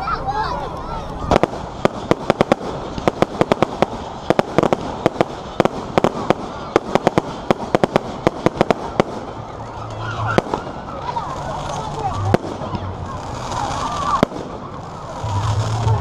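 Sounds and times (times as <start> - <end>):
fireworks banging: 1.2 - 16.0.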